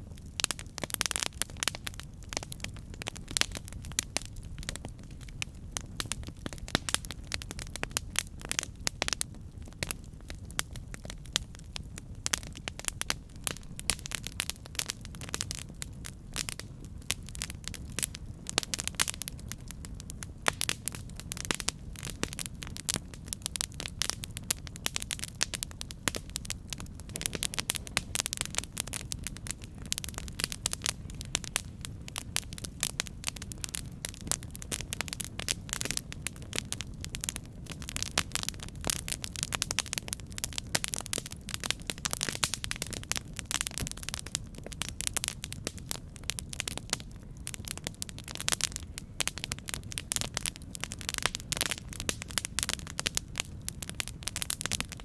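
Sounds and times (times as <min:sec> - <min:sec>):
burning wood crackling: 0:00.0 - 0:55.0
low rumble of flames: 0:00.0 - 0:55.0.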